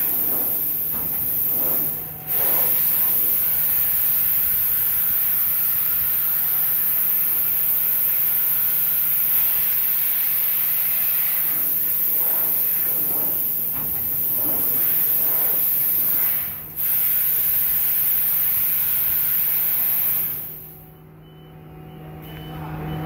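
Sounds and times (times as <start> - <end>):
compressed air jets hissing: 0.0 - 20.8.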